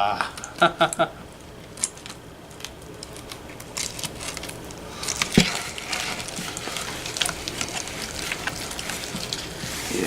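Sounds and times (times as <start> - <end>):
slime squelching and crackling: 1.7 - 10.0.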